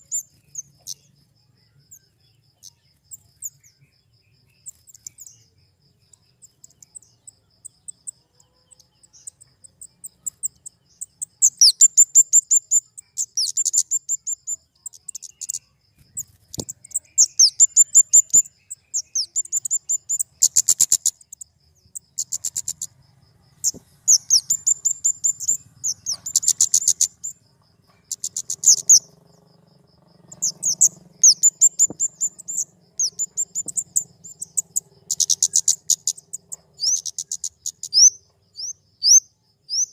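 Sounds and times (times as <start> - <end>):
bird ticking calls: 0.0 - 39.9.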